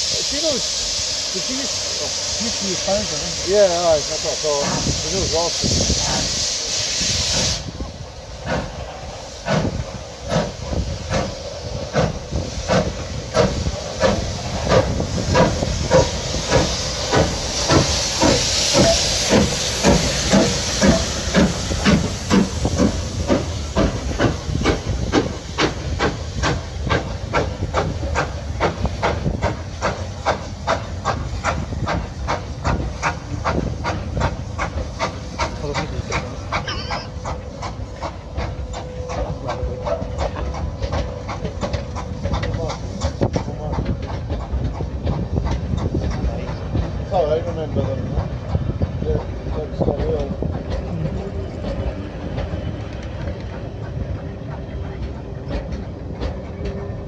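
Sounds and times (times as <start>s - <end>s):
steam hissing: 0.0s - 57.0s
steam locomotive chuffing: 0.0s - 57.0s.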